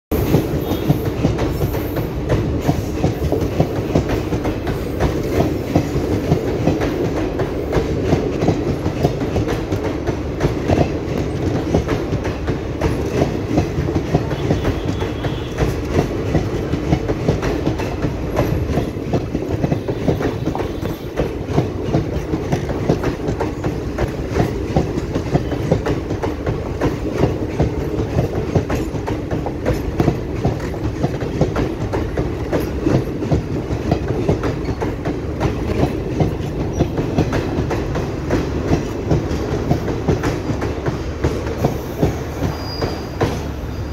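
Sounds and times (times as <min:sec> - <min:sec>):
train coaches rumbling past: 0:00.1 - 0:43.9
wheels clattering over rail joints: 0:00.2 - 0:43.8.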